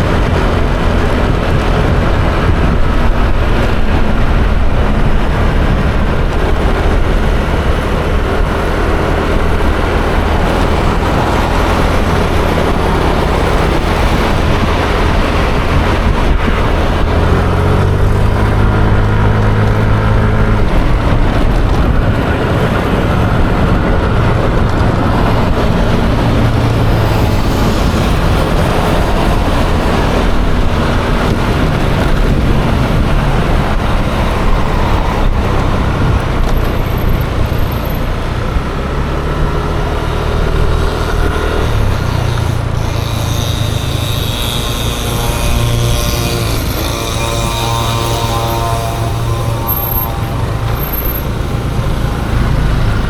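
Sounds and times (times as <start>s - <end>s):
road and wind noise: 0.0s - 53.0s
scooter engine running: 0.0s - 53.0s
surrounding traffic: 0.0s - 53.0s.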